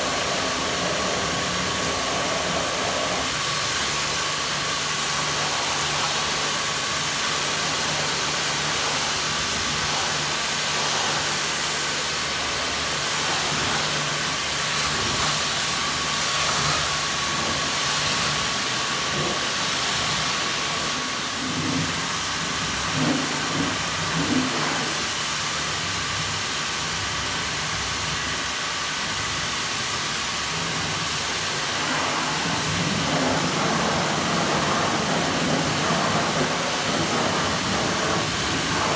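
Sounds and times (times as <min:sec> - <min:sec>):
high-pressure water jet hissing: 0:00.0 - 0:38.9
pump hum and whine: 0:00.0 - 0:38.9.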